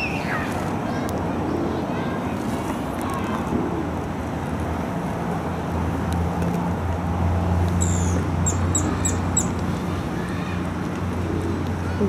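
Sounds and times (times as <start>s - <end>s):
urban background drone: 0.0s - 12.0s.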